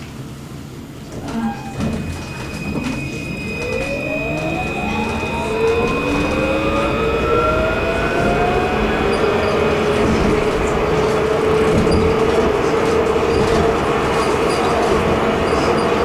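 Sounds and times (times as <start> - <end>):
tram rumble: 0.1 - 16.0
tram motor whine rising: 1.7 - 16.0.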